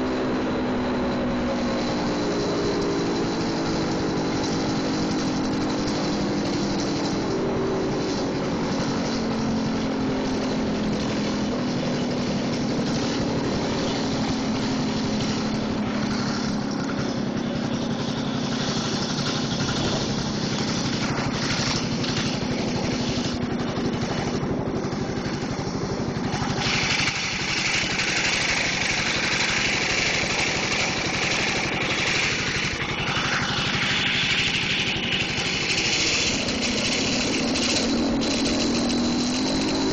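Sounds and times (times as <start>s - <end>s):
siren engine running: 0.0s - 39.9s.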